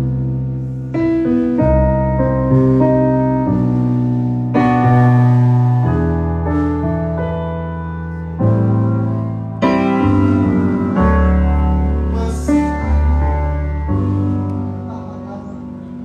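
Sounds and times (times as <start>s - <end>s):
deep bass: 0.0s - 16.0s
electronic keyboard chords: 0.0s - 16.0s.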